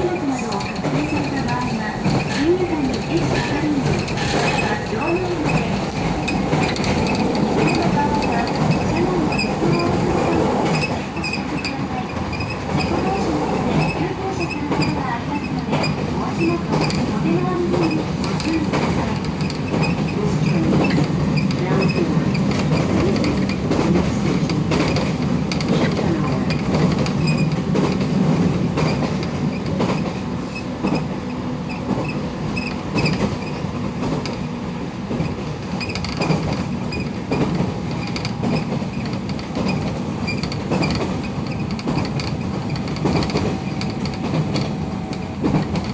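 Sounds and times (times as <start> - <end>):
train running noise: 0.0 - 45.9.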